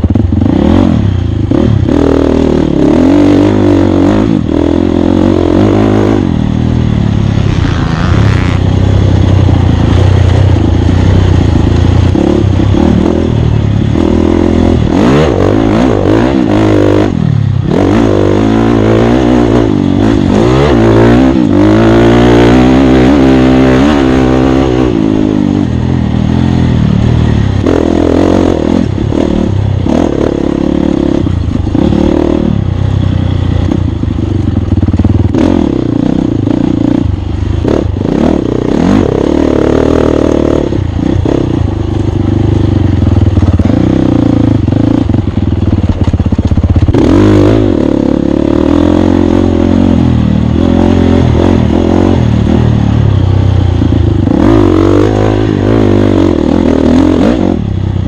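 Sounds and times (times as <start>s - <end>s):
dirt bike engine revving: 0.0s - 57.7s.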